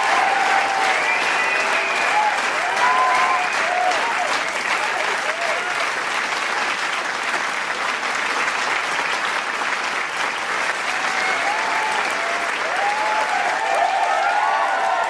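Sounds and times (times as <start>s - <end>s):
crowd cheering: 0.0s - 15.0s
crowd clapping: 0.0s - 15.0s.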